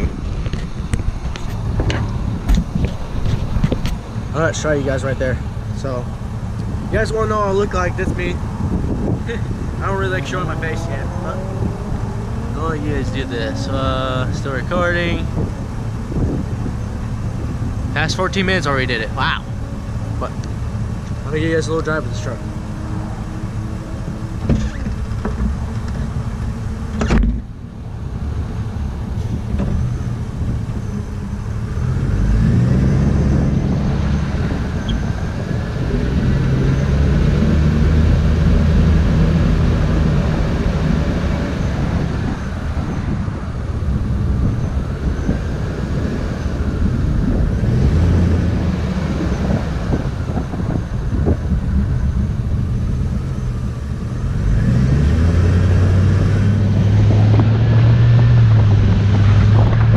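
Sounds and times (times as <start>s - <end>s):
truck engine pulling away: 0.0s - 59.9s.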